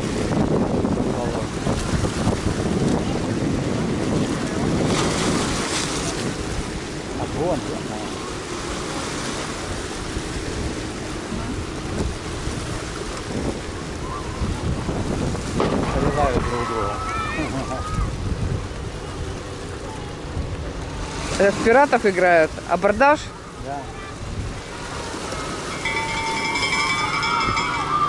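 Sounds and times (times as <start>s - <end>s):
wind buffeting microphone: 0.0s - 22.0s, 22.6s - 28.0s
sea water lapping on rocks: 0.0s - 27.5s.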